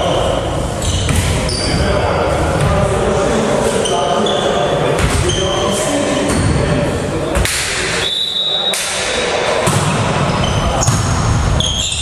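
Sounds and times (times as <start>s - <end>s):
players' voices and calls: 0.0s - 12.0s.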